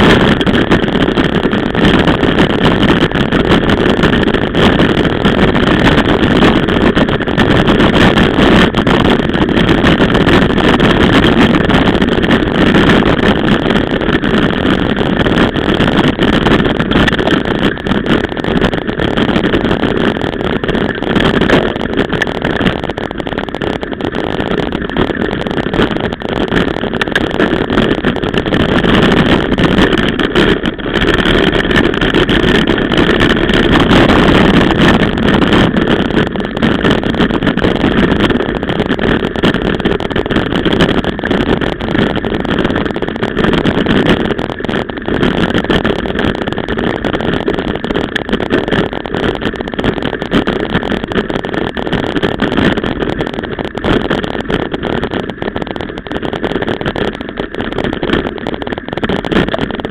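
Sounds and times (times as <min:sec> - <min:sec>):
bike rattling and knocking: 0:00.0 - 0:59.9
wind and tyre noise: 0:00.0 - 0:59.9.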